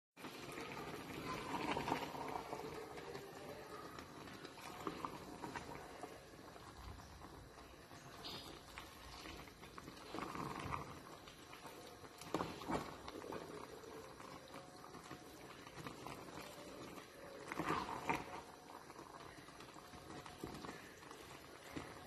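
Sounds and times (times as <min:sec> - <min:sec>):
sauce squelching and bubbling: 0:00.2 - 0:22.0.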